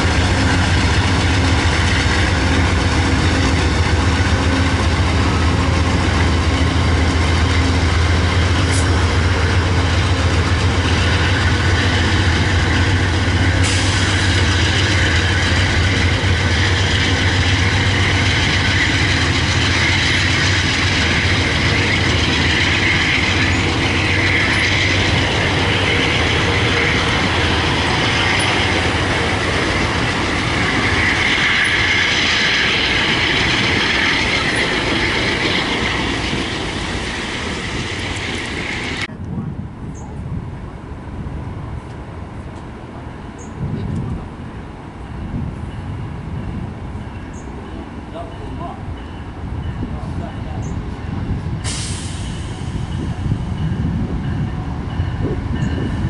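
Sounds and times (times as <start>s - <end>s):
train cars rolling on rails: 0.0s - 56.0s.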